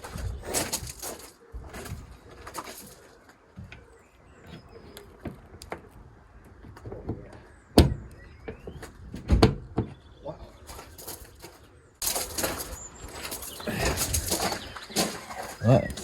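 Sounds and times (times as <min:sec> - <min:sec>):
birds calling faintly: 0:00.0 - 0:16.0.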